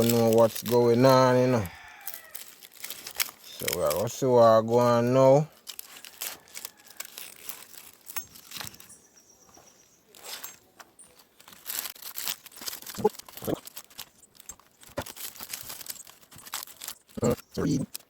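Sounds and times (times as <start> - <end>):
leaf wrapping crinkling: 0.0 - 9.0, 10.1 - 18.0.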